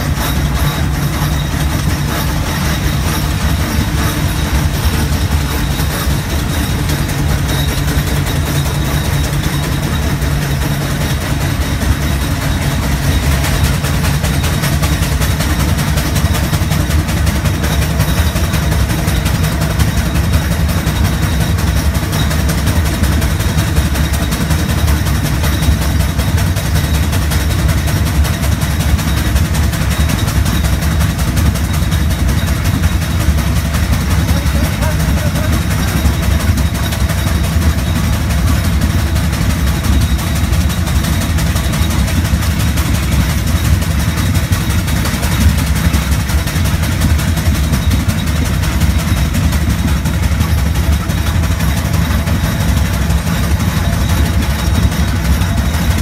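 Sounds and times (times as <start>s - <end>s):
steam traction engine rumbling: 0.0s - 56.0s.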